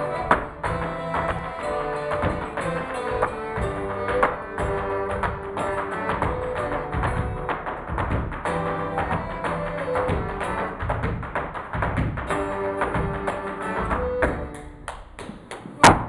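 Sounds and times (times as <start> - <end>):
folk band playing: 0.0 - 14.8
tap shoes on wooden stage: 0.0 - 16.0.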